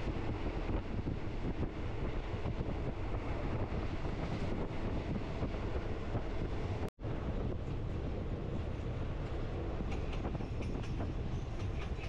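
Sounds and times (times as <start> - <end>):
train rumbling and rattling: 0.0 - 12.0
wind buffeting microphone: 0.0 - 12.0.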